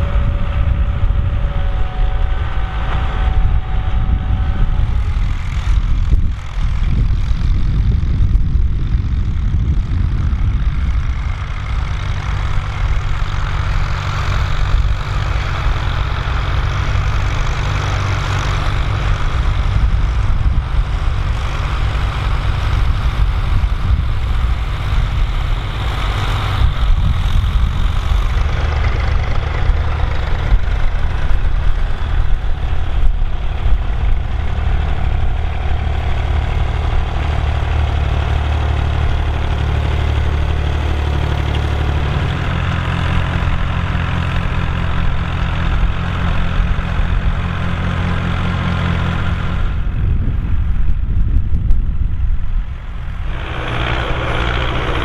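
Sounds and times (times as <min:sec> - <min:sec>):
tractor diesel engines: 0:00.0 - 0:55.0.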